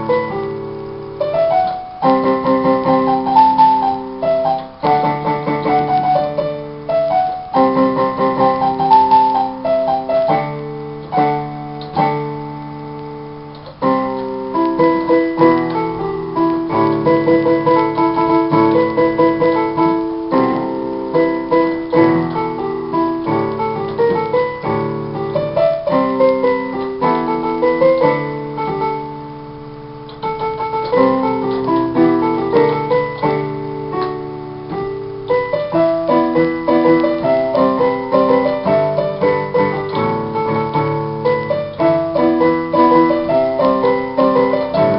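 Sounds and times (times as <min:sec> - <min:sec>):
electronic keyboard piano piece: 0:00.0 - 0:44.9.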